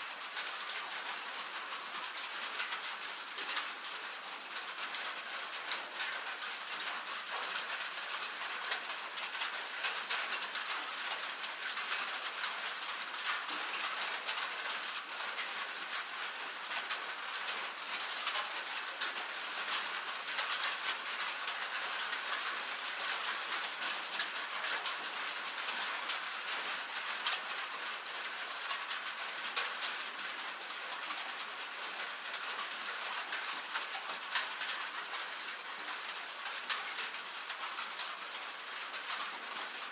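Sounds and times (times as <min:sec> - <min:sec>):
light rain on a metal roof: 0:00.0 - 0:39.9.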